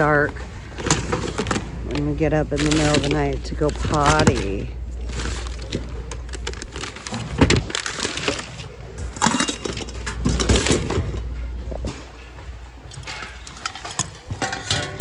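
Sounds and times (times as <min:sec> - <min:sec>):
items shifting and scraping: 0:00.0 - 0:15.0
hard objects clattering and clinking: 0:00.8 - 0:15.0.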